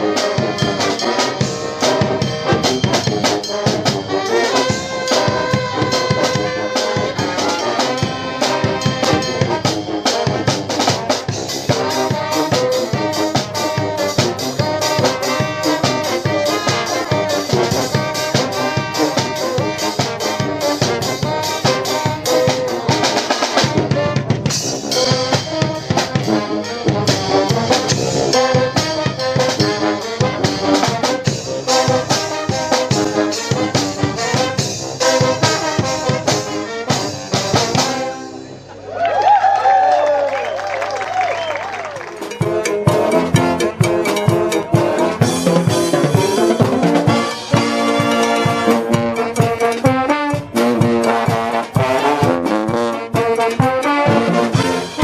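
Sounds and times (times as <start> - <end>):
drum kit: 0.0 - 38.7, 41.9 - 55.0
trombones: 0.0 - 38.8, 41.5 - 55.0
trumpets: 0.0 - 38.8, 40.3 - 55.0.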